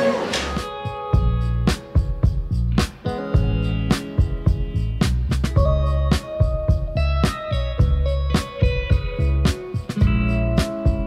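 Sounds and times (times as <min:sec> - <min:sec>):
guitar over a steady beat: 0:00.5 - 0:11.0.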